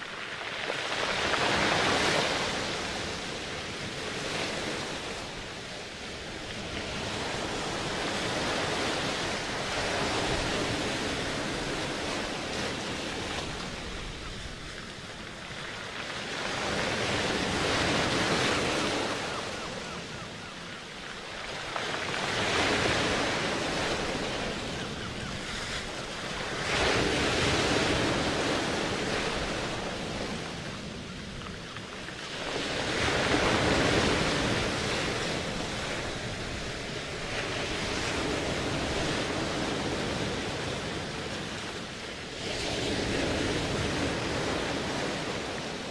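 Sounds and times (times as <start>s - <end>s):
ocean waves washing: 0.0s - 45.9s.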